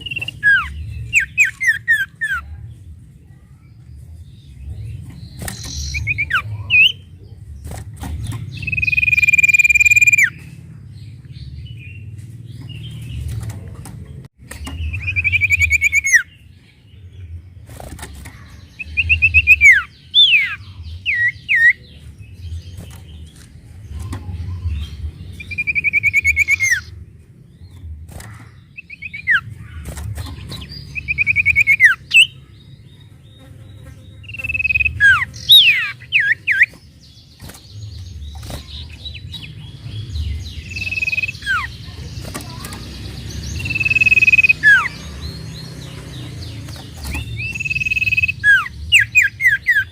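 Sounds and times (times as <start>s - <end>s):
songbird singing trills and whistles: 0.0s - 2.6s, 3.5s - 13.3s, 14.4s - 17.4s, 18.1s - 49.9s.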